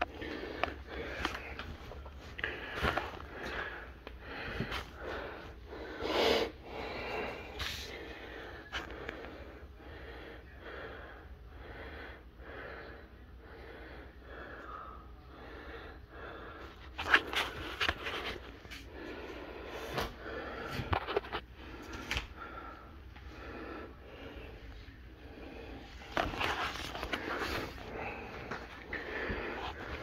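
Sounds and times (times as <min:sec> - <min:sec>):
person breathing and sniffing: 0:00.0 - 0:30.0.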